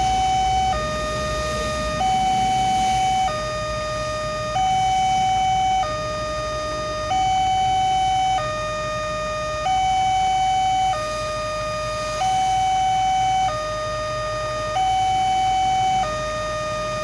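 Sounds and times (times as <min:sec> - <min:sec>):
two-tone crossing alarm: 0:00.0 - 0:17.0.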